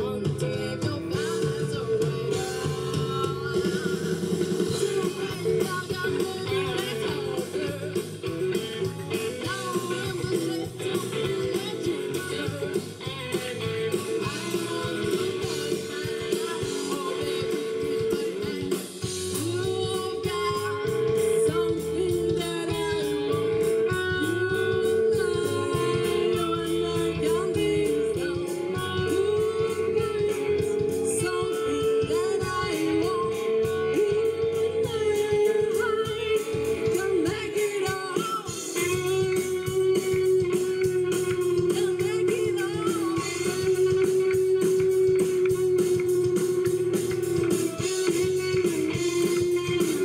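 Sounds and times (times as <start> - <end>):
congas: 0.0 - 50.0
electric guitar: 0.0 - 50.0
woman singing: 0.0 - 50.0.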